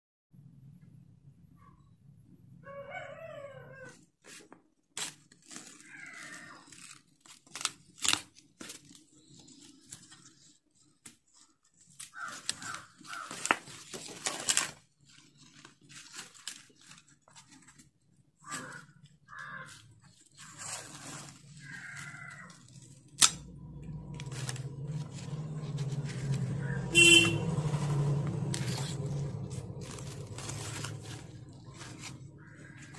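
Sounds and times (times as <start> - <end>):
corn husks rustling and tearing: 4.2 - 32.9.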